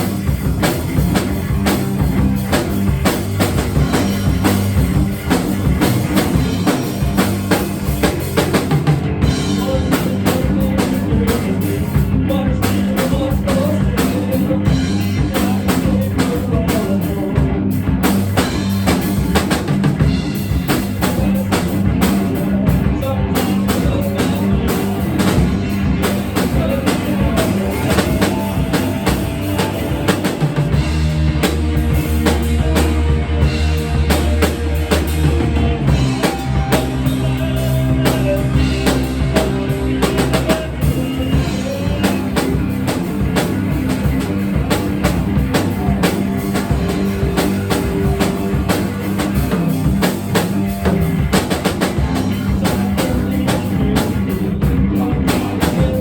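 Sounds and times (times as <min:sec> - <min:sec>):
bass: 0:00.0 - 0:56.0
drum kit beat: 0:00.0 - 0:56.0.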